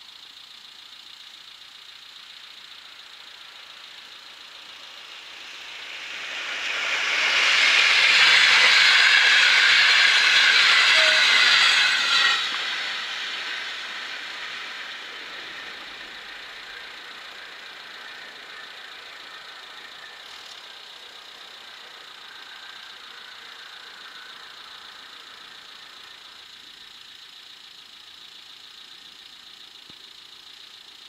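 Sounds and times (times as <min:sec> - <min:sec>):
train wheels rushing on rail: 0:01.8 - 0:27.2.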